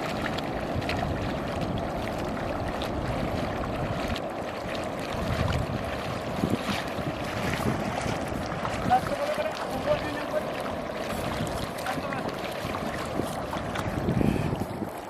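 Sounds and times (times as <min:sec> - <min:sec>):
water sloshing and splashing: 0:00.0 - 0:15.0
wind noise on microphone: 0:00.0 - 0:15.0.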